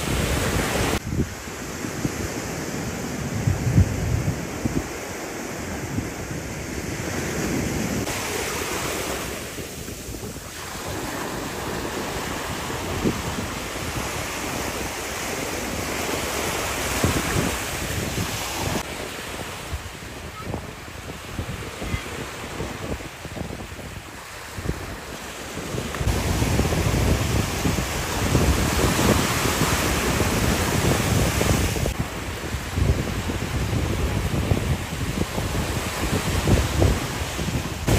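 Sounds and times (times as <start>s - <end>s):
surf washing onto beach: 0.0s - 37.9s
wind buffeting microphone: 0.0s - 37.9s.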